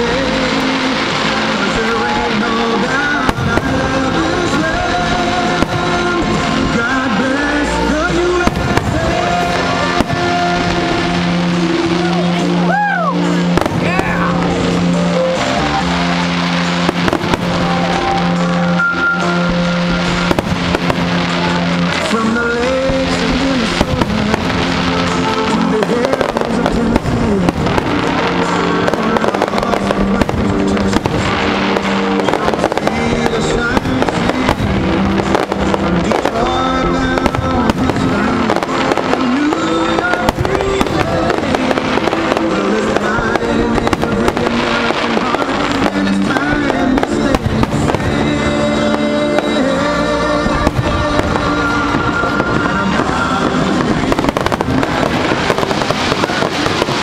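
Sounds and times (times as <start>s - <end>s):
fireworks shells bursting: 0.0s - 57.0s
music playing: 0.0s - 57.0s.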